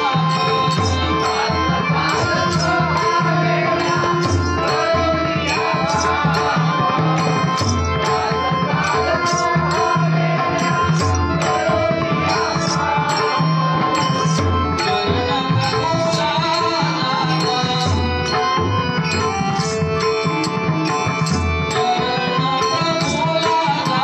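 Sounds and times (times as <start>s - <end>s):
hand cymbals steady beat: 0.0s - 24.0s
harmonium sustained notes: 0.0s - 24.0s.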